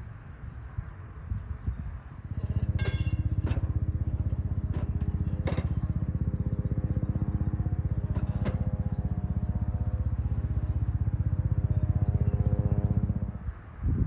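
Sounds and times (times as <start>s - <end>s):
engine idling: 2.2s - 13.7s.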